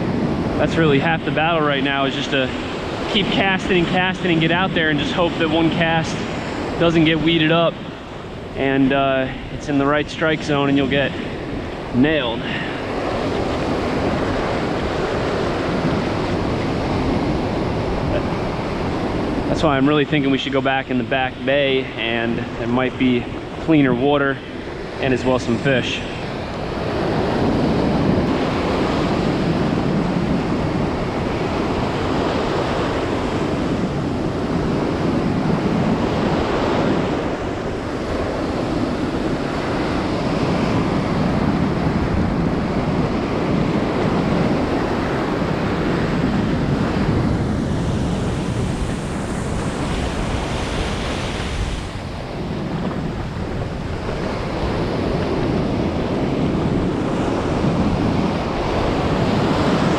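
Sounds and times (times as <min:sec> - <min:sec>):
ocean surf breaking on beach: 0:00.0 - 0:59.9
wind buffeting microphone: 0:00.0 - 0:59.9.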